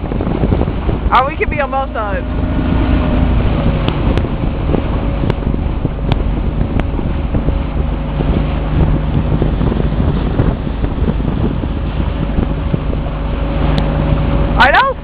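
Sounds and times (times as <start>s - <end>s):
motorboat engine running: 0.0s - 15.0s
wind noise on microphone: 0.0s - 15.0s.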